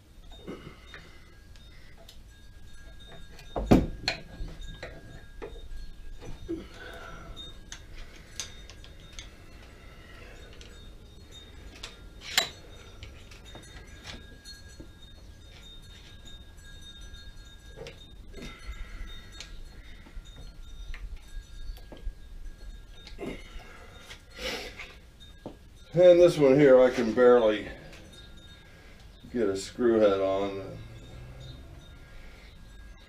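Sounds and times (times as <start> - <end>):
metal tools clinking: 0.2 - 33.0.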